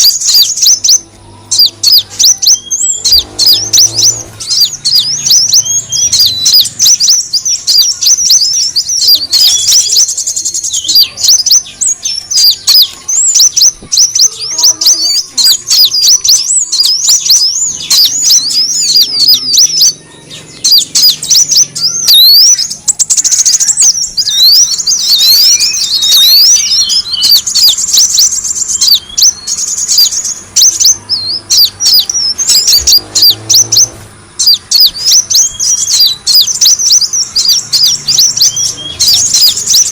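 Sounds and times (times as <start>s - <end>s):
sunbird twittering: 0.0s - 39.9s.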